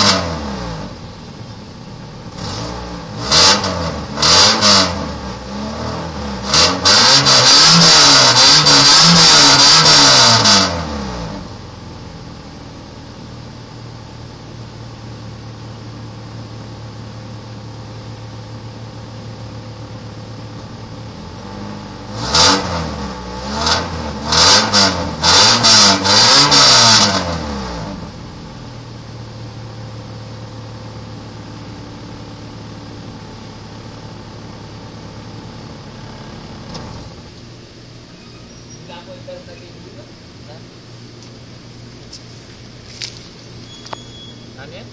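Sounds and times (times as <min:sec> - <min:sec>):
car engine revving and idling: 0:00.0 - 0:44.9.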